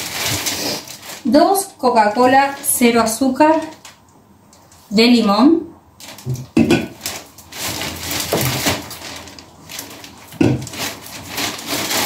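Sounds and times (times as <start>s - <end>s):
plastic bag rustling: 0.0s - 4.0s, 6.0s - 12.0s.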